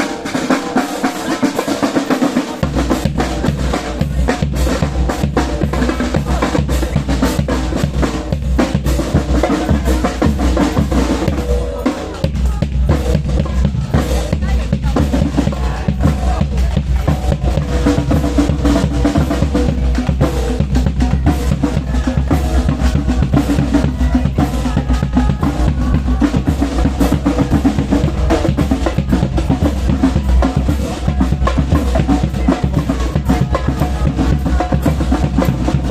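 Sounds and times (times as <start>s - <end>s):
drum kit playing: 0.0s - 35.9s.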